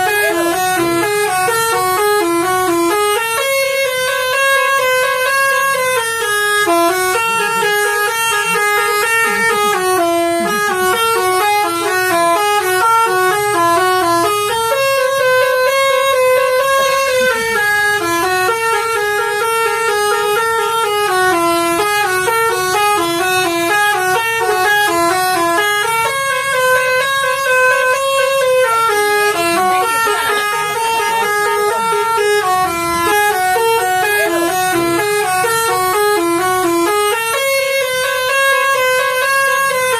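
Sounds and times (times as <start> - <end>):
multi-tone bus horn melody: 0.0 - 39.9.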